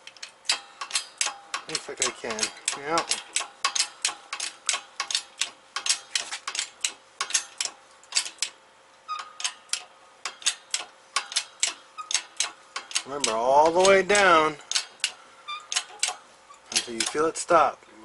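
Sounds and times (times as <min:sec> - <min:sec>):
jack handle clicking rapidly: 0:00.9 - 0:08.5, 0:09.4 - 0:17.3.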